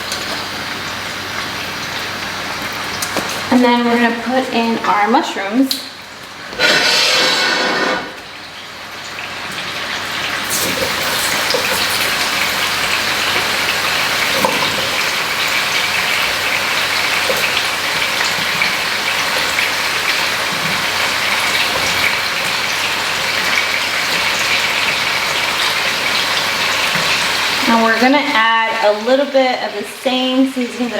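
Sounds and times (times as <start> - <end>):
food sizzling in a pan: 0.3 - 30.9.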